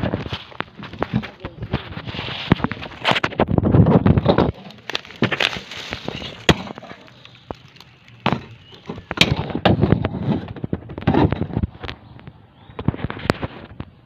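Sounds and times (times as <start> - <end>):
crackles and sharp knocks: 0.0 - 14.0.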